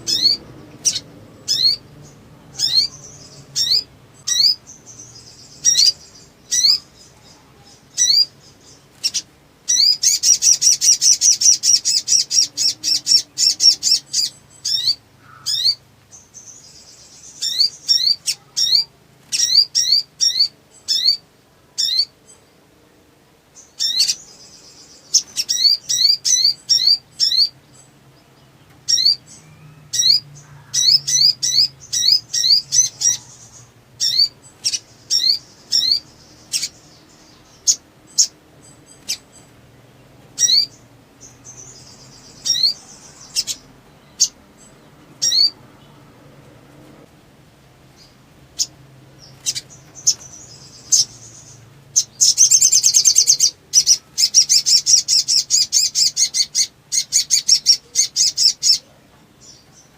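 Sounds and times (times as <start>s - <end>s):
bird trilling: 0.0s - 22.2s, 23.6s - 27.9s, 28.8s - 39.6s, 40.4s - 45.6s, 48.0s - 58.9s
bird chirping: 0.0s - 47.1s, 47.8s - 59.9s.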